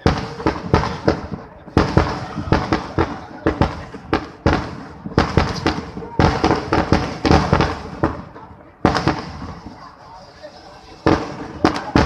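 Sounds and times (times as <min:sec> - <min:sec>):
firecracker bangs: 0:00.0 - 0:12.0.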